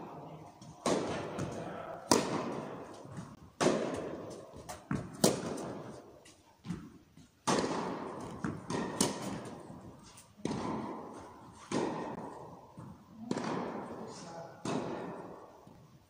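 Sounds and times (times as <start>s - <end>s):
racket striking tennis ball: 0.6s - 15.8s
tennis ball bouncing: 0.6s - 15.8s.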